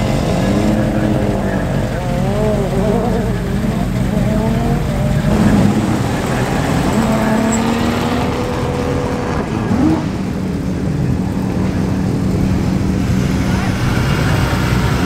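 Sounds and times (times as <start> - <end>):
car engine idling: 0.0 - 15.0
people talking: 0.0 - 15.0.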